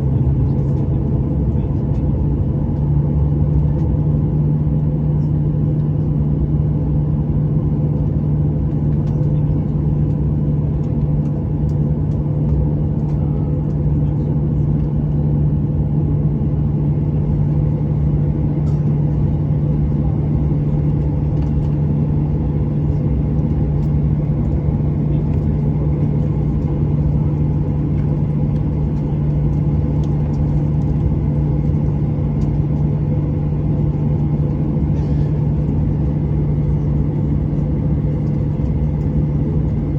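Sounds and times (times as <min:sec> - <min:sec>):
airplane cabin drone: 0:00.0 - 0:39.9
low hum: 0:00.0 - 0:39.9.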